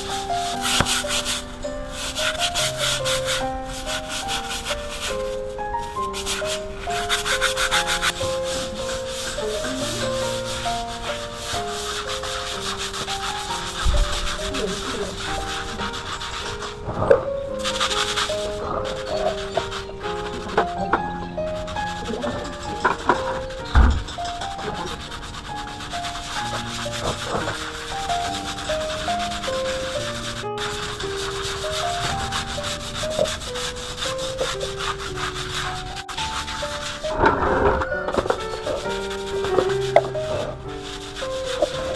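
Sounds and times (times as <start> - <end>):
background music: 0.0 - 41.9
brushes scrubbing wet concrete: 0.0 - 41.9
simple melody of held notes: 0.0 - 41.9.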